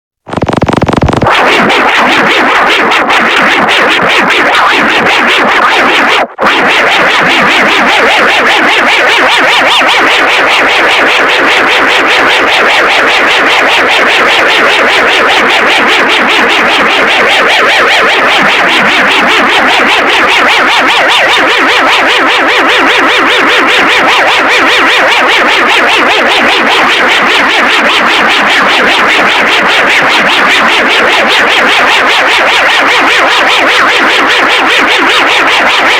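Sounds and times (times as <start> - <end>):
pulsing synthesized alarm tone: 0.4 - 35.9.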